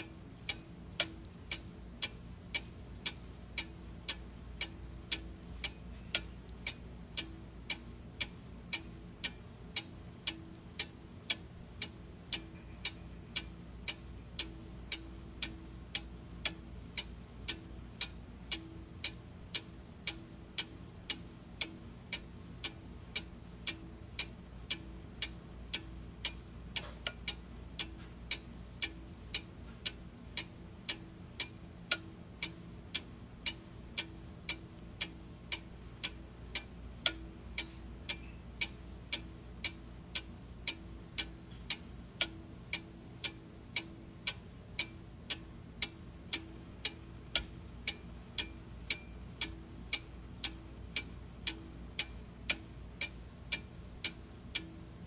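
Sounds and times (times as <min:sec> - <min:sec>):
faint low hum: 0:00.0 - 0:55.0
steady mechanical ticking: 0:00.0 - 0:55.0.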